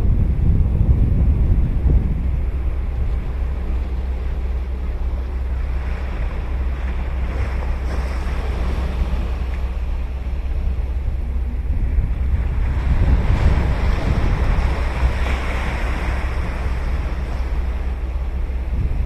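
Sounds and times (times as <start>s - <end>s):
ocean surf washing onto beach: 0.0s - 19.0s
wave breaking: 0.0s - 19.0s.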